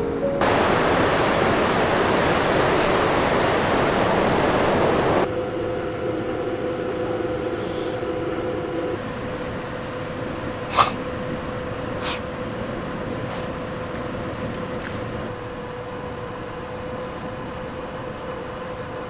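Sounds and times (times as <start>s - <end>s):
steady hum with low tone: 0.0s - 19.0s
wind and surf: 0.0s - 19.0s.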